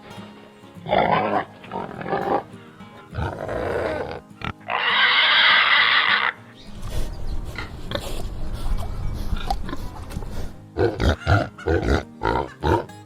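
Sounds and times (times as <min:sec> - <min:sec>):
background music: 0:00.0 - 0:13.0
pigs grunting and squealing: 0:00.8 - 0:02.5, 0:03.1 - 0:13.0.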